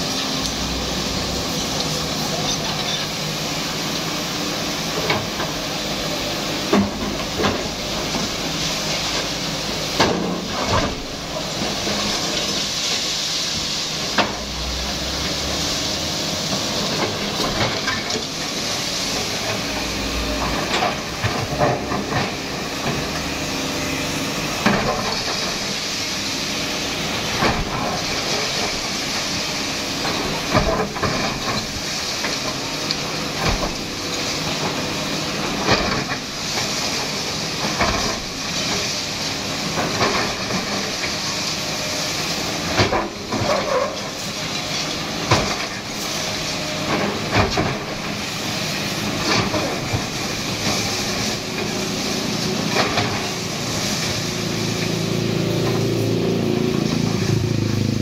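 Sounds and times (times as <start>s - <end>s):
bucket dragging concrete rubble: 0.0s - 58.0s
excavator running: 0.0s - 58.0s.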